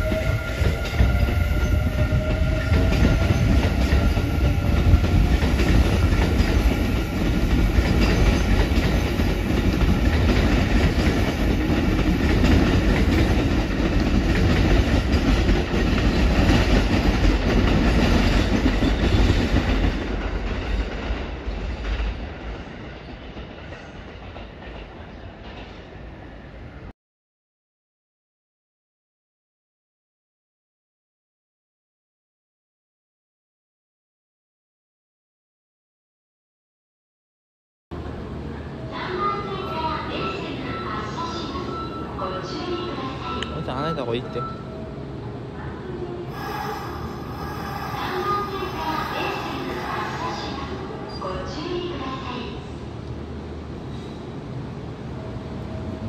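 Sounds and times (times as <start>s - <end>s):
electric train passing: 0.0s - 26.9s, 38.0s - 56.0s.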